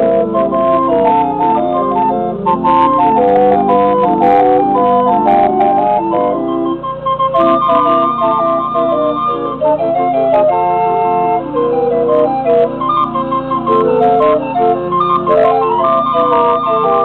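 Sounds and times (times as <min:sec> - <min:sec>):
band organ playing lively tune: 0:00.0 - 0:17.0.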